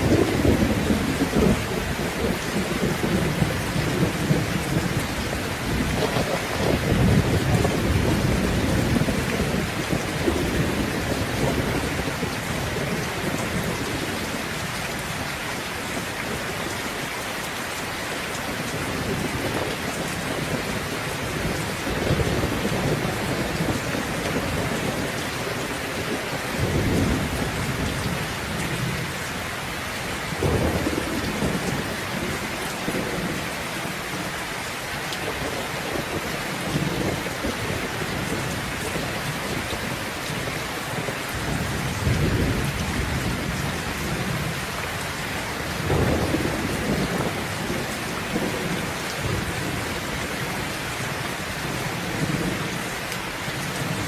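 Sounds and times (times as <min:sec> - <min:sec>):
thunder rumbling: 0:00.0 - 0:15.3, 0:18.3 - 0:34.4, 0:35.2 - 0:54.0
heavy rain hissing: 0:00.0 - 0:54.0.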